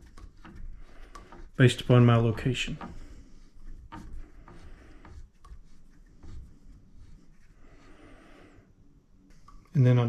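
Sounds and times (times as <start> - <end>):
soft rubbing: 0.0 - 10.0.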